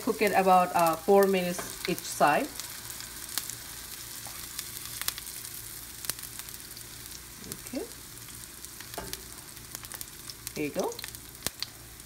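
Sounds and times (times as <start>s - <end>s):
patties sizzling in oil: 0.0s - 12.0s
oil popping and crackling: 0.8s - 12.0s.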